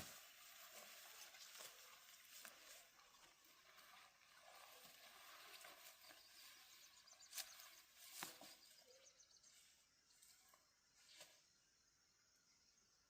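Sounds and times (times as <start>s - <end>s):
faint rural ambience: 0.0s - 13.0s.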